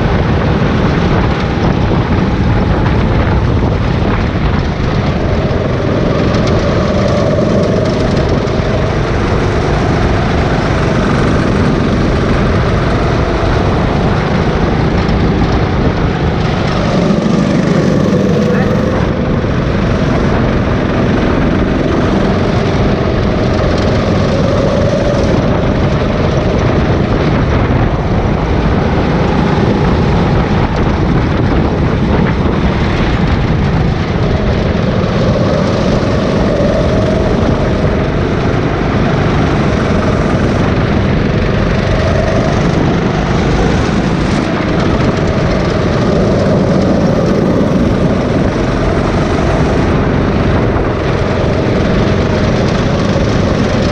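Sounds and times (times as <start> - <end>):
go-kart engine running: 0.0 - 53.9
steady rushing noise: 0.0 - 53.9.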